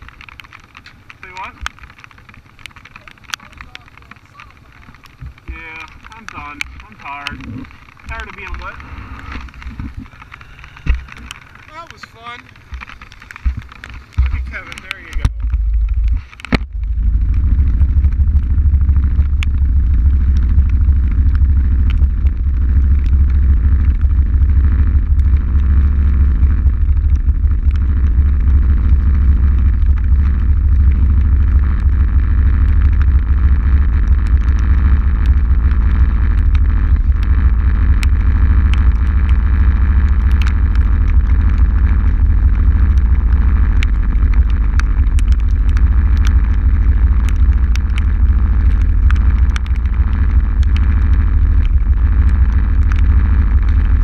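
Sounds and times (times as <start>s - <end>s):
atv engine rumbling: 0.0s - 54.0s
raindrop ticks: 0.0s - 54.0s.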